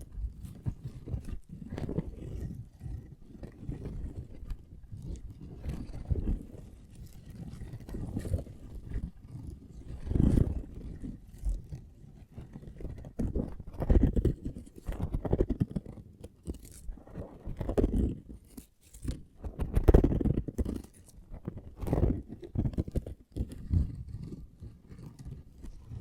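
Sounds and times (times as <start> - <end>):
fingertips scratching microphone: 0.0 - 26.0.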